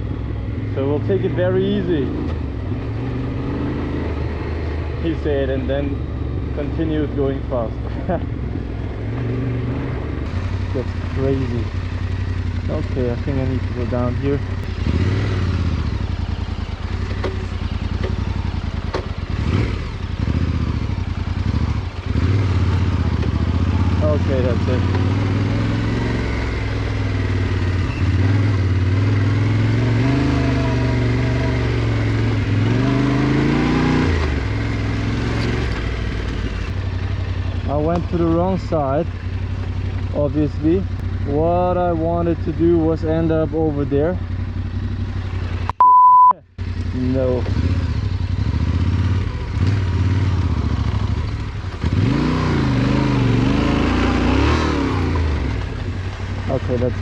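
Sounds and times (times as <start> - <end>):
motorcycle engine revving: 0.0 - 45.7, 46.6 - 57.0.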